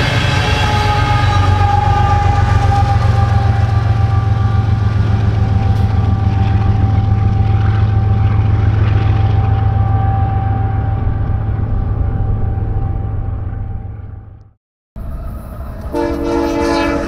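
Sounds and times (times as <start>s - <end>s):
freight train rumbling: 0.0s - 17.0s
whining tones: 0.0s - 17.0s.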